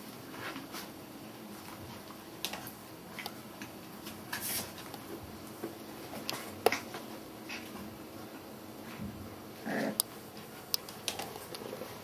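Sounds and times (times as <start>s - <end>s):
puppies scampering on floor: 0.0s - 9.3s, 10.1s - 12.0s.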